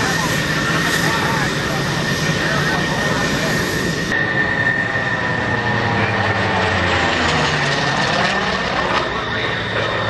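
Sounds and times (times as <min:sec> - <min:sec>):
propeller plane engine passing: 0:00.0 - 0:10.0
steady high-pitched whine: 0:00.0 - 0:10.0.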